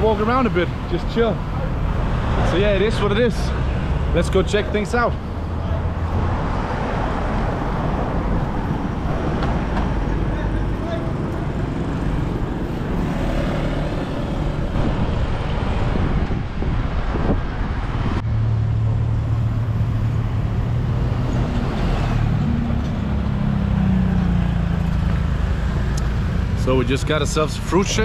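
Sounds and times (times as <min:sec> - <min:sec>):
passing vehicle engines: 0:00.0 - 0:28.0.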